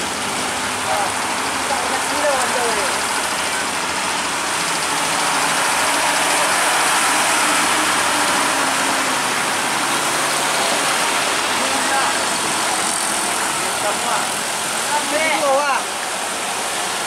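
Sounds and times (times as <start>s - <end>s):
rain hissing on wet road: 0.0s - 17.0s
truck engine running: 0.0s - 17.0s.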